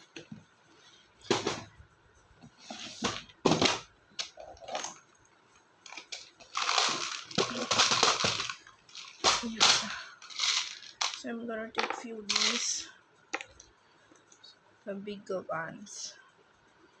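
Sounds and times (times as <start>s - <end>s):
rustling of jewellery materials: 0.0s - 14.7s.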